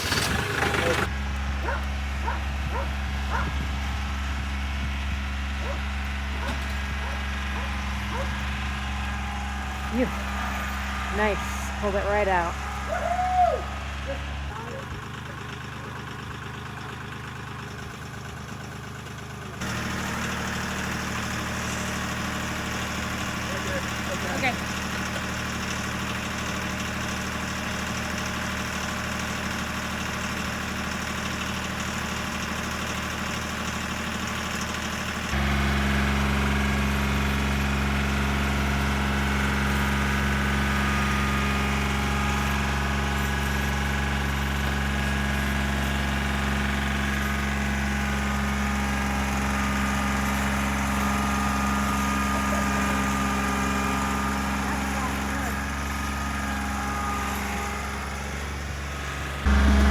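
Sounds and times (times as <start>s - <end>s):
deep engine hum: 0.0s - 59.9s
vehicle engine idling: 0.0s - 59.9s.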